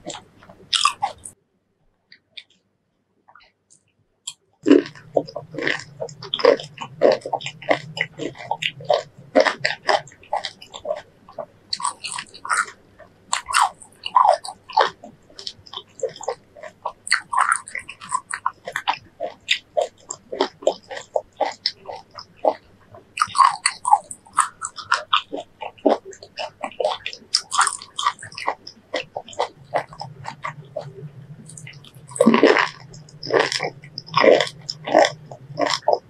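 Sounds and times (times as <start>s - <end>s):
biting and chewing lime: 0.0s - 1.4s, 4.3s - 36.0s.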